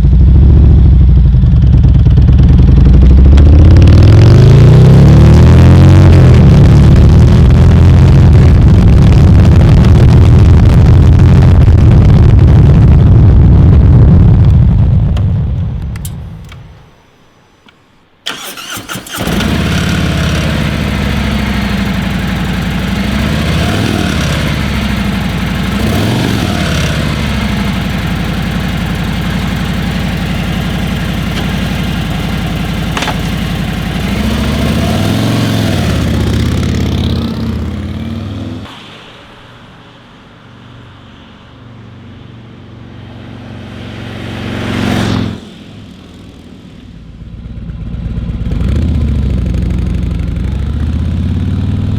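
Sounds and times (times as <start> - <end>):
motorcycle engine idling and revving: 0.0 - 16.8, 18.3 - 38.9, 41.8 - 51.9.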